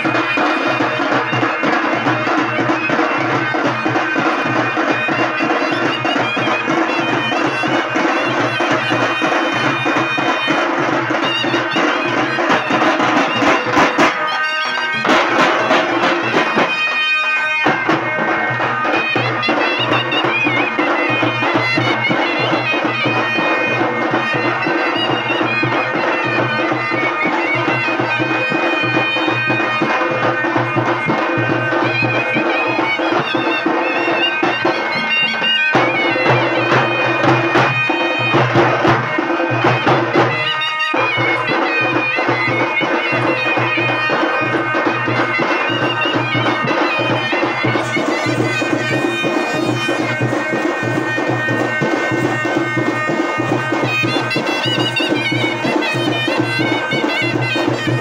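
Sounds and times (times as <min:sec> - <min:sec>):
frame drums and bass drum: 0:00.0 - 0:58.0
trumpets playing folk tune: 0:00.0 - 0:58.0.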